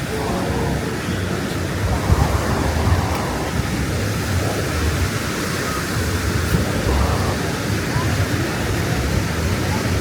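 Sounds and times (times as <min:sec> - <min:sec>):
ocean surf rushing: 0:00.0 - 0:10.0.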